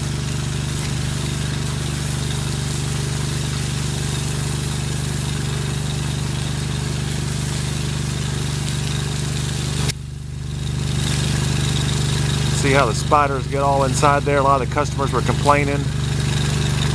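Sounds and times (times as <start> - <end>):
high-pressure spray hissing: 0.0 - 16.9
pressure washer engine running: 0.0 - 16.9.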